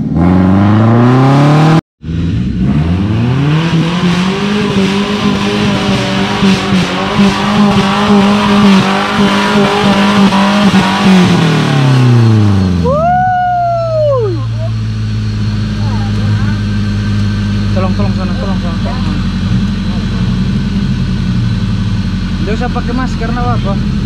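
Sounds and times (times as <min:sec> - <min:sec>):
buggy engine revving: 0:00.0 - 0:24.0.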